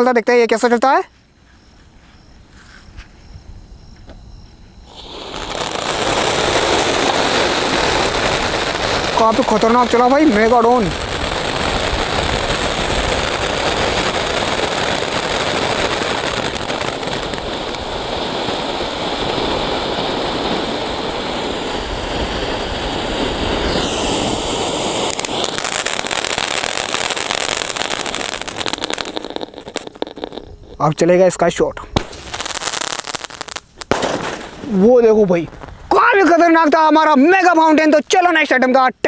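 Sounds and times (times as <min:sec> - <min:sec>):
firework hissing and crackling: 0:04.6 - 0:38.6.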